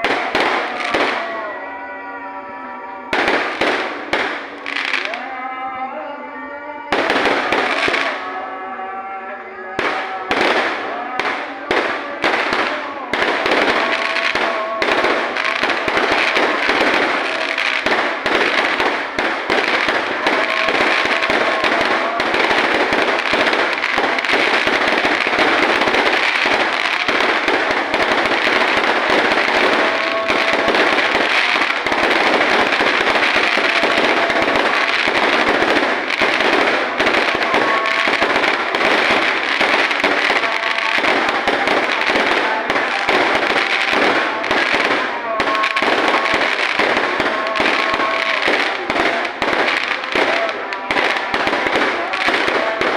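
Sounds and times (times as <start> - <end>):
fireworks crackling and banging: 0.0 - 52.9.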